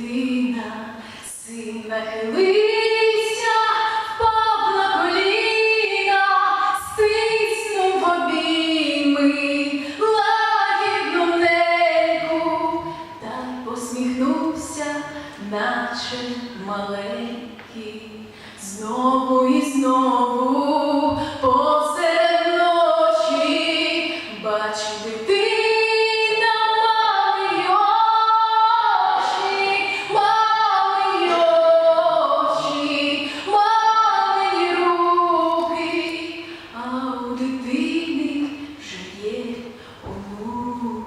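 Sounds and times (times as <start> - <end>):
woman singing wordless melody: 0.0 - 41.0.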